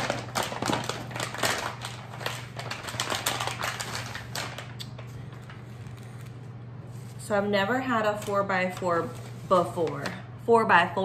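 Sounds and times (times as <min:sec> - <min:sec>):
paper bag crinkling: 0:00.0 - 0:07.3, 0:07.9 - 0:10.2.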